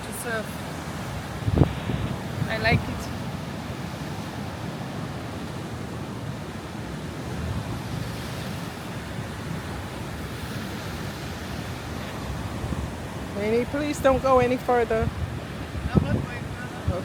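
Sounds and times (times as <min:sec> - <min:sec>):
waves breaking on rocky shore: 0:00.0 - 0:17.0
wind buffeting microphone: 0:00.0 - 0:17.0.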